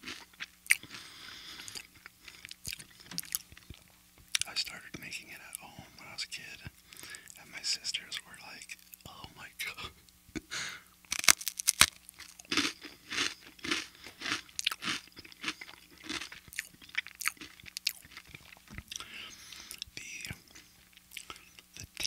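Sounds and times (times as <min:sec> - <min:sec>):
cracker crunching: 0:00.0 - 0:07.4, 0:11.0 - 0:22.0
rhythmic chewing: 0:00.0 - 0:22.0.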